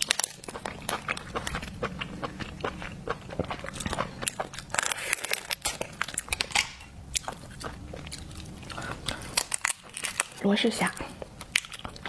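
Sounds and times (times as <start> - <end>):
chewing with wet clicks: 0.0 - 12.0.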